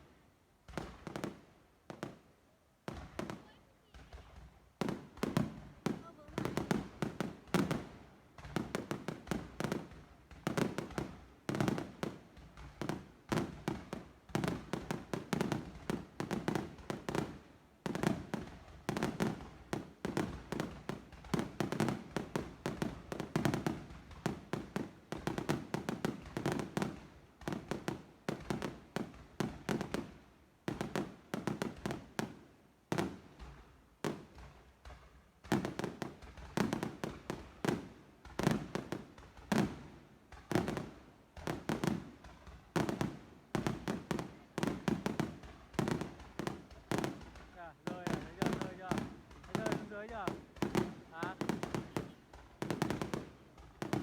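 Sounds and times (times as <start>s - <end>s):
fireworks bangs and cracks: 0.6s - 2.2s, 2.8s - 54.0s.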